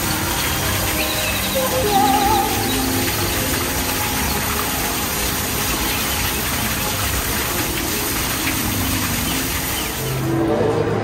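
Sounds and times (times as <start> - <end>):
faint music: 0.0 - 11.0.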